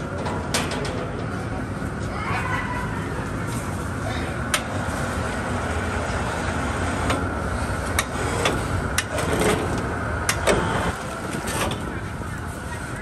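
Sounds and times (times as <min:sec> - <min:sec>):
boiling rig low noise: 0:00.0 - 0:13.0.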